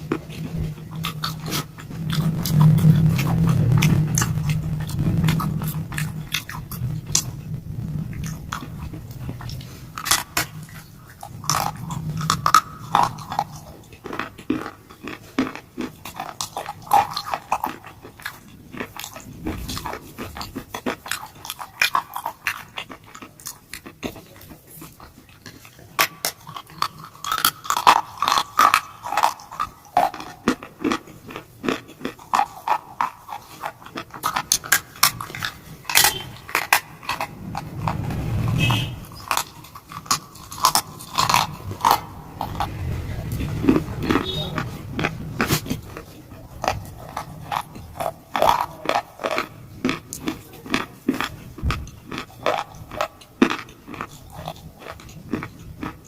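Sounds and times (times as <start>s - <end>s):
chewing brittle rock crunches: 0.0s - 38.0s, 39.1s - 56.0s.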